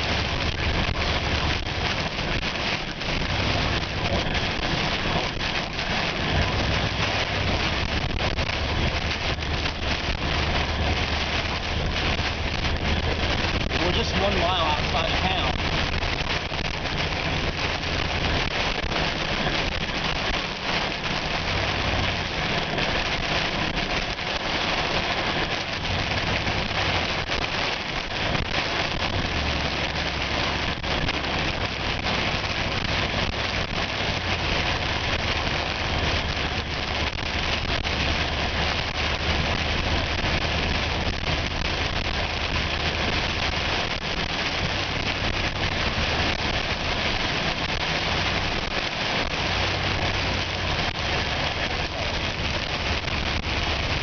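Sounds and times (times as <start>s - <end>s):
engine and road hum: 0.0s - 54.0s
heavy rain pelting a vehicle: 0.0s - 54.0s.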